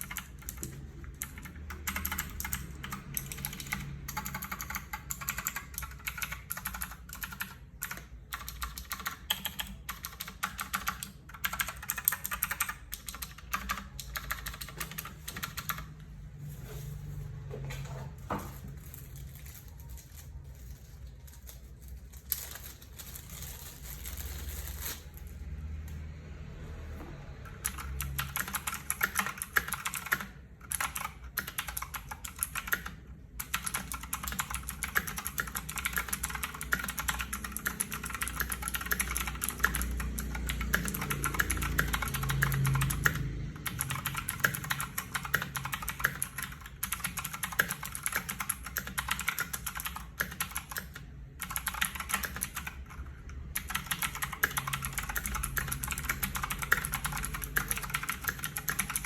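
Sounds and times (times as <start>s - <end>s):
mechanical keyboard typing: 0.0s - 16.2s, 27.4s - 59.0s.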